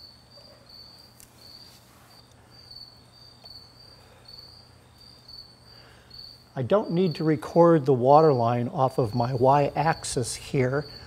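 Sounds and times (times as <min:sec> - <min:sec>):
cricket chirping: 0:00.0 - 0:11.0
faint low hum: 0:00.0 - 0:11.0.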